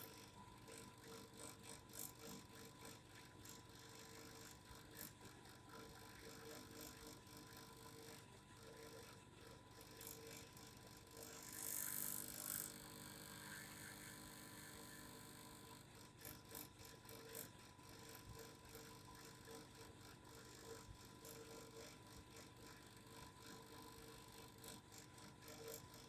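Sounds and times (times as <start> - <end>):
faint vibrating device hum: 0.0 - 26.0.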